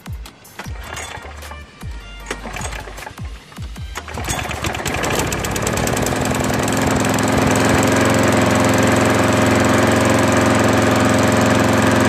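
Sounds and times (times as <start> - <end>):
lawn mower engine running: 0.5 - 12.0.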